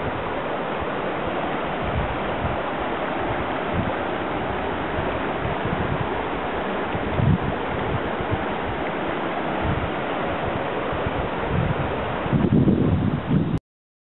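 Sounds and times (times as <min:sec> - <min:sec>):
steady rushing outdoor noise: 0:00.0 - 0:13.6
wind buffeting microphone: 0:00.0 - 0:13.6.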